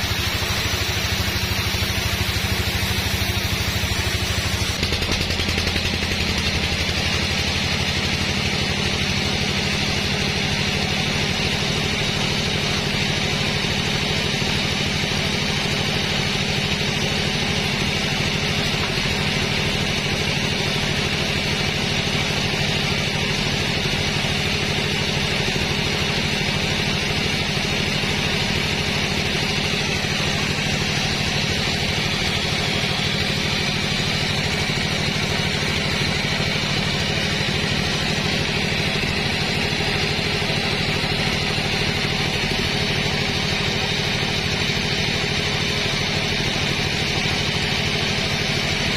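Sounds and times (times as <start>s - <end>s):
sawmill machinery humming: 0.0s - 48.9s.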